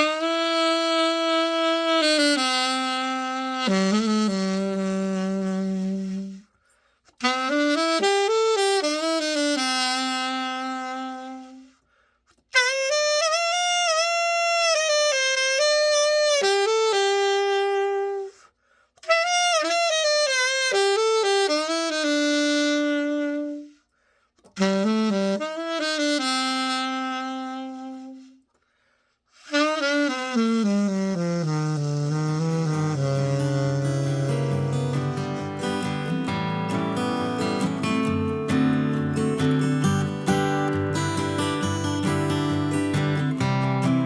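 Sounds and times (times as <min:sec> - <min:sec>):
alto saxophone melody: 0:00.0 - 0:44.0.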